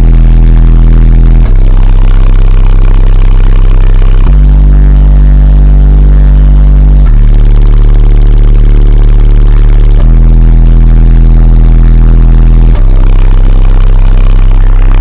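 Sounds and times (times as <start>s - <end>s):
distorted loud bass music: 0.0s - 15.0s.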